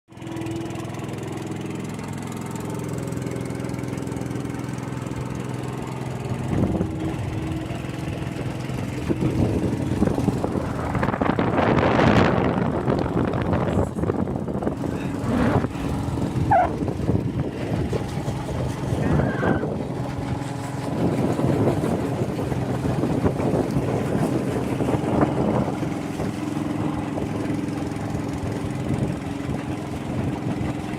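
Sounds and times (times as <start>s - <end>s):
motor engine running: 0.1s - 30.9s.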